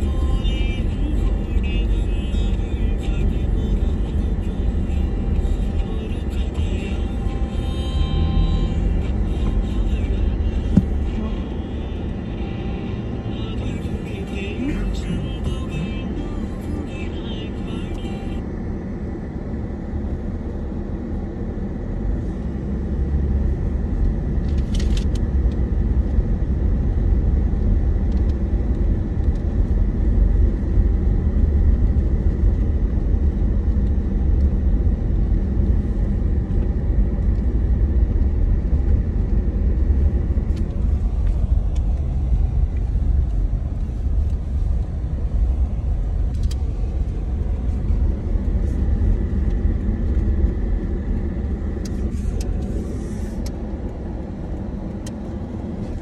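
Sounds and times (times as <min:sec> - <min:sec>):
car cabin road rumble: 0:00.0 - 0:56.0.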